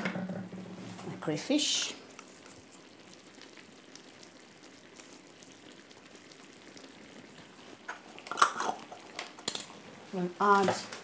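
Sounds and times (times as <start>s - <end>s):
soup simmering and bubbling: 0.1s - 11.0s.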